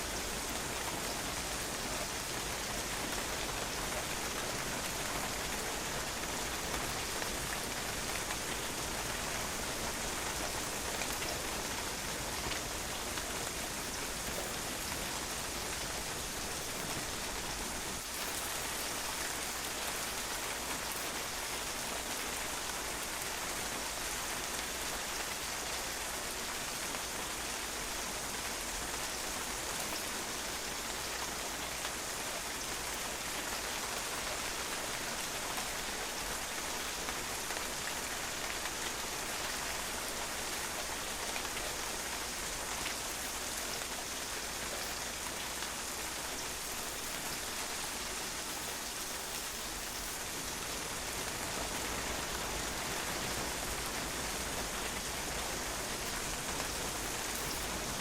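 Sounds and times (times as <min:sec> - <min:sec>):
rain falling on a patio: 0:00.0 - 0:58.0.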